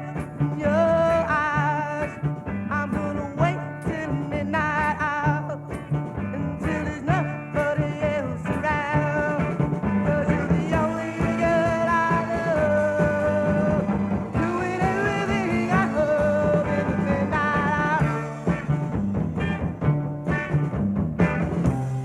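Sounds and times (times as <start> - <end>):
man singing lead vocal: 0.0 - 18.9
live rock band playing soul: 0.0 - 22.0.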